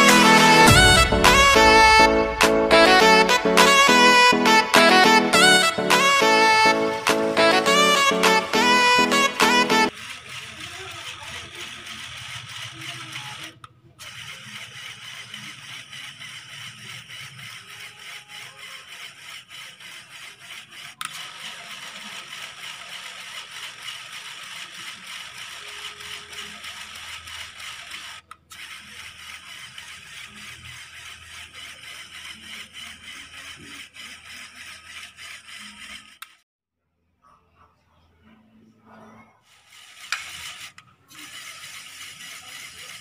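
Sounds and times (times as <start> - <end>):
small electric motor whirring: 0.0 - 36.4, 39.5 - 43.0.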